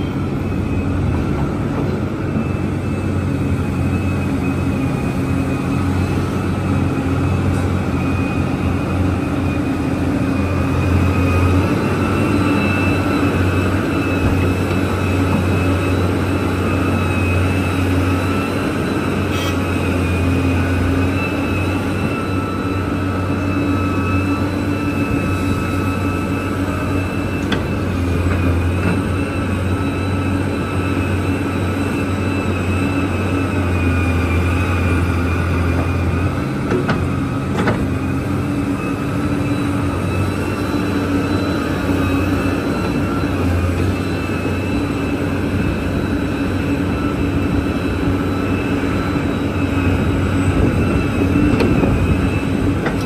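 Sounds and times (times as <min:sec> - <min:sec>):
excavator diesel engine running: 0:00.0 - 0:53.0
high-pitched whine: 0:00.0 - 0:53.0.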